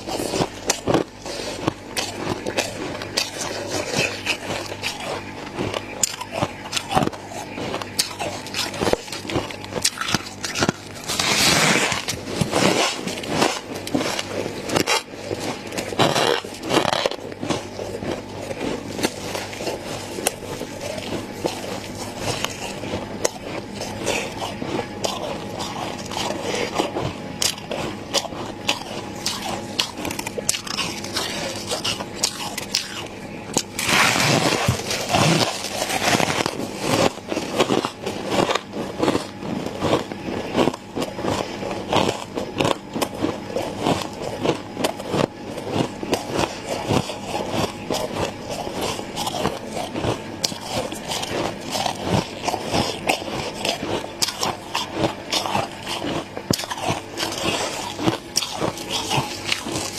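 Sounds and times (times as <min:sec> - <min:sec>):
freezer frost crunching: 0:00.0 - 0:59.9.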